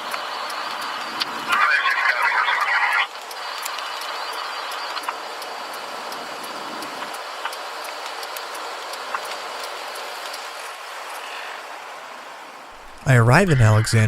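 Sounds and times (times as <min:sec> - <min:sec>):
car road and tyre noise: 0:00.0 - 0:13.6.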